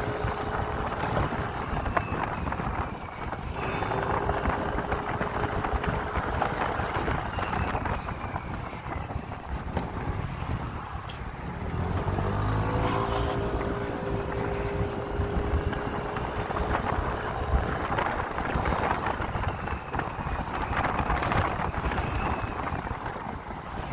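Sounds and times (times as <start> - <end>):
motorcycle engine running: 0.0 - 23.9
wind buffeting microphone: 0.0 - 23.9.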